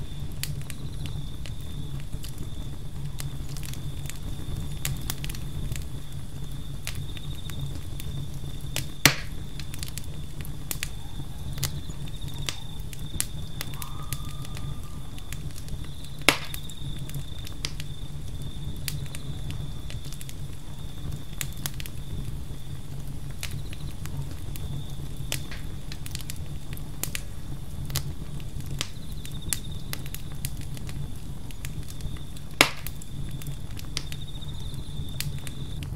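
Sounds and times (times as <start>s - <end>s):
campfire crackling and popping: 0.0s - 35.9s
cricket trill: 0.0s - 35.9s
low steady rumble: 0.0s - 35.9s.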